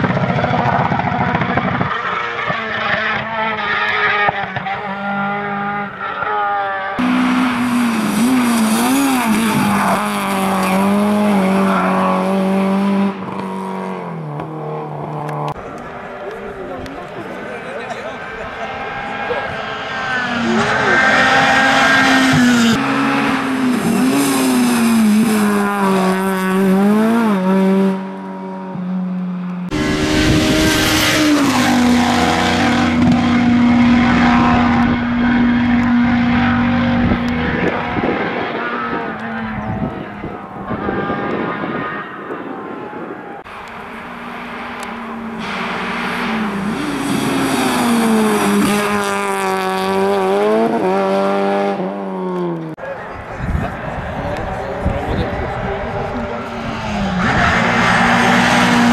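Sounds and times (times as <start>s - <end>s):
rally car engines revving: 0.0s - 58.9s.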